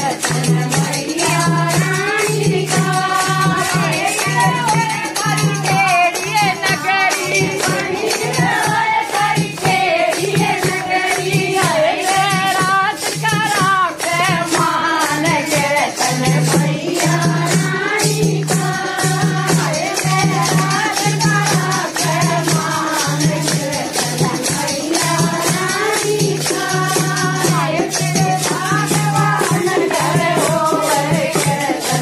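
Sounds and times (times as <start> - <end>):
devotional singing voices: 0.0 - 32.0
hand percussion jingle: 0.0 - 32.0.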